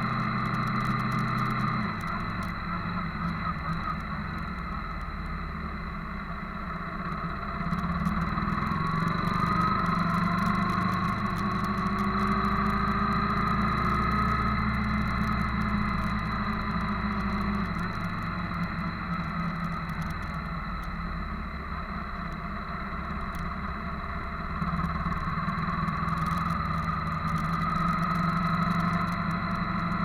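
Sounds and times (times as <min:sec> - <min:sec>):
motorcycle engines running: 0:00.0 - 0:30.0.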